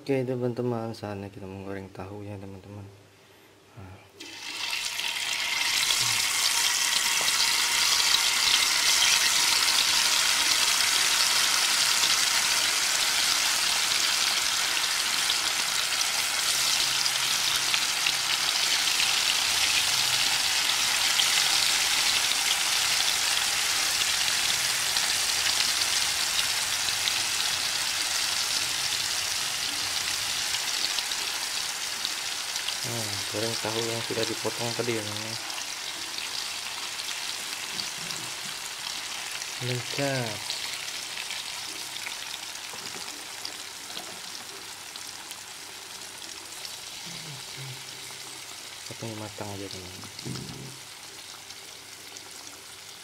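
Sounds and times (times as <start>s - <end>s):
tofu sizzling in hot oil: 4.2s - 53.0s.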